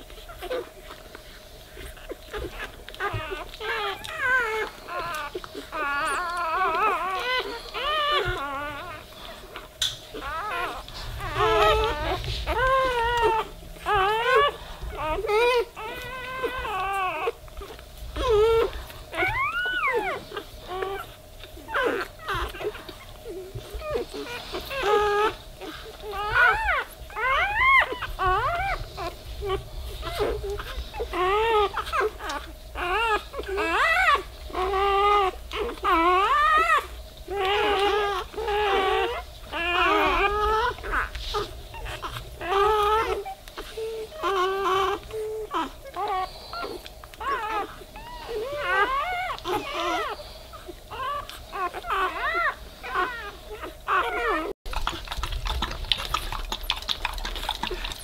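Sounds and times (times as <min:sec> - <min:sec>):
puppies squealing and whimpering: 0:00.0 - 0:58.0.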